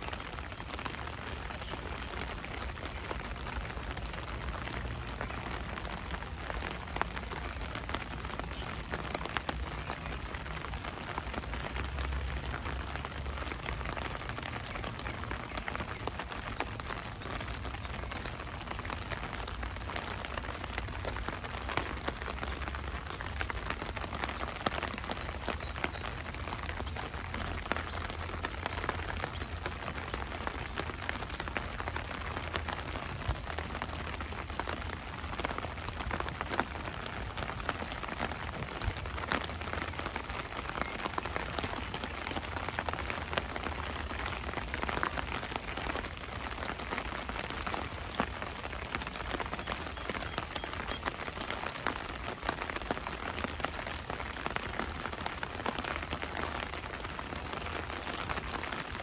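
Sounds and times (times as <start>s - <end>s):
rain falling on ground: 0.0s - 59.0s.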